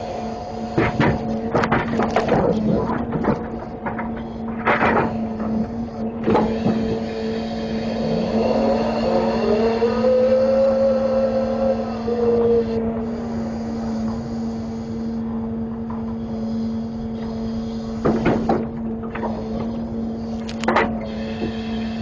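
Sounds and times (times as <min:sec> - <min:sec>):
truck engine and hydraulics whining: 0:00.0 - 0:22.0.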